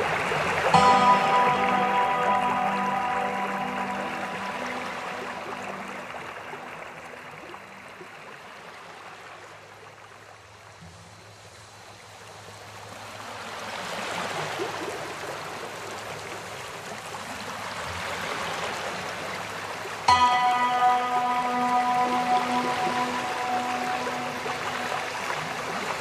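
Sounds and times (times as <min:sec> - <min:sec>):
stream running over rocks: 0:00.0 - 0:26.0.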